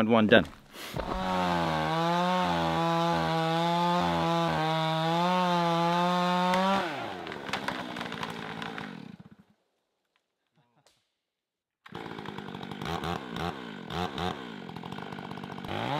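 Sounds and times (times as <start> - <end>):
chainsaw cutting wood: 0.6 - 9.5, 11.9 - 15.9.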